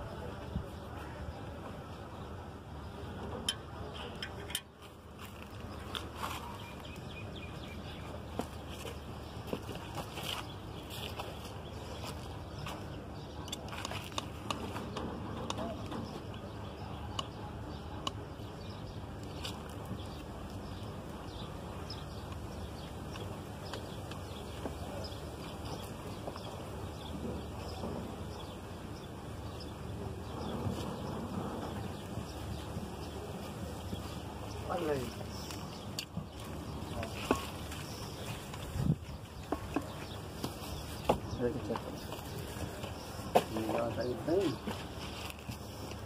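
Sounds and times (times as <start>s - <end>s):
low background noise: 0.0s - 46.0s.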